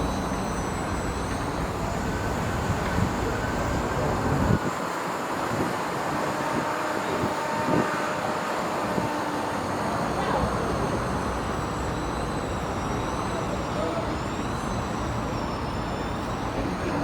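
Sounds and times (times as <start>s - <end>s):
vehicle and street noise: 0.0s - 17.0s
faint voices: 1.6s - 17.0s.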